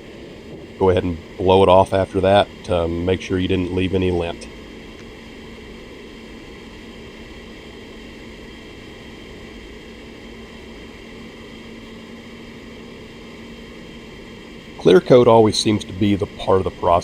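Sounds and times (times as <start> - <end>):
low hum: 0.0 - 17.0
ventilation fans rushing air: 0.0 - 17.0.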